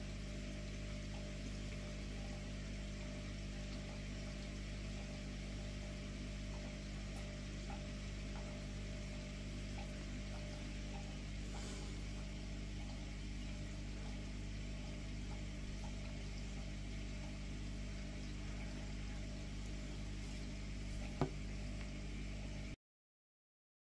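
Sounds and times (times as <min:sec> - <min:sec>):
machine hum: 0:00.0 - 0:22.8.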